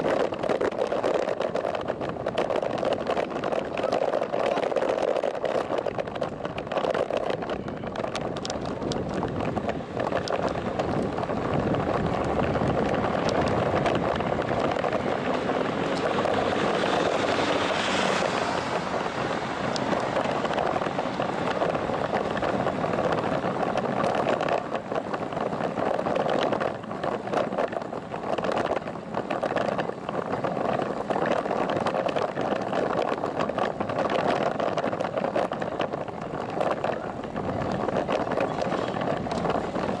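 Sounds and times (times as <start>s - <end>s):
road and tyre noise: 0.0s - 40.0s
wind buffeting microphone: 0.0s - 40.0s.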